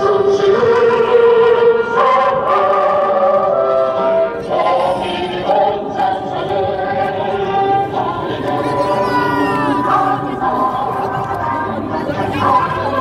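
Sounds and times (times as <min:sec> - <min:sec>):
many voices singing together: 0:00.0 - 0:13.0.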